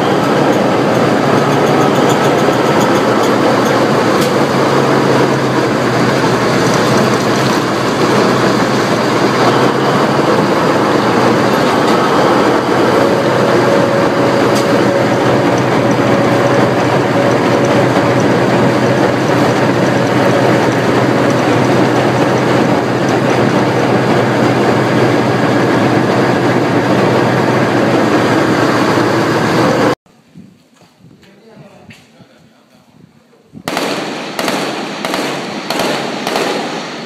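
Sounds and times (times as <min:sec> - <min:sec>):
steel tracks clattering: 0:00.0 - 0:30.0, 0:33.7 - 0:37.0
tank engine droning: 0:00.0 - 0:30.0.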